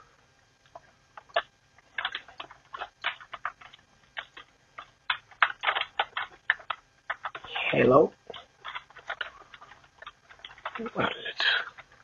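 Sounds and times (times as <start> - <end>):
computer keyboard typing: 1.2 - 12.0.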